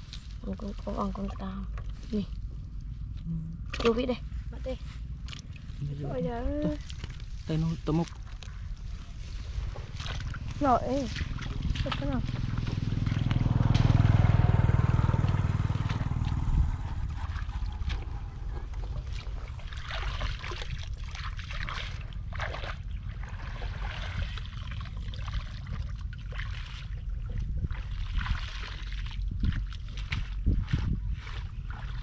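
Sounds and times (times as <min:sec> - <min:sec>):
low rumble: 0:00.0 - 0:32.0
water sloshing and splashing: 0:00.0 - 0:32.0.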